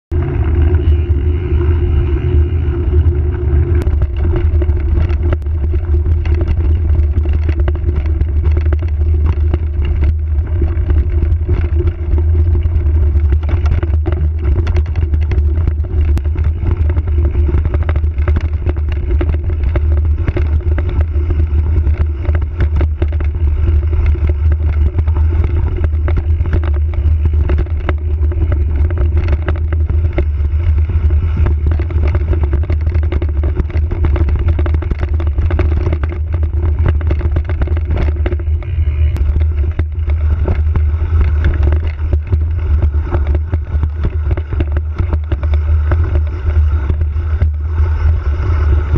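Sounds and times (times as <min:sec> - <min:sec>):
bike clicking and rattling: 0:00.1 - 0:48.9
tyres and wind rumbling: 0:00.1 - 0:48.9.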